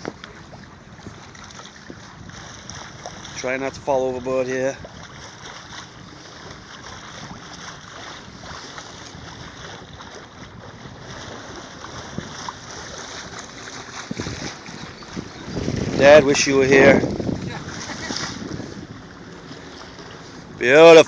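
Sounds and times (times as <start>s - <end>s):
water moving past hull: 0.0s - 21.0s
wind on microphone: 0.0s - 21.0s.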